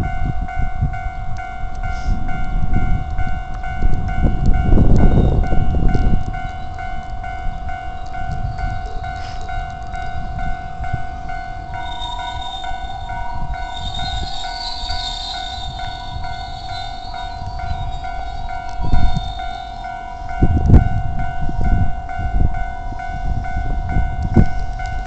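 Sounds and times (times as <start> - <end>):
higher ringing tone: 0.0 - 25.0
level crossing bell ringing: 0.0 - 25.0
low train rumble: 0.0 - 25.0.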